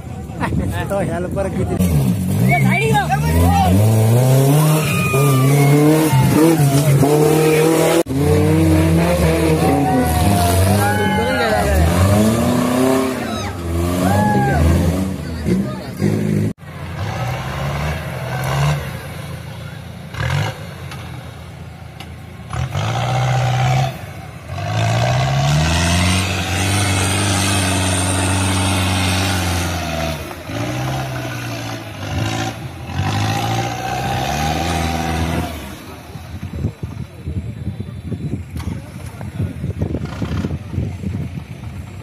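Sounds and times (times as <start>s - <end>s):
off-road vehicle engine revving: 0.8s - 42.0s.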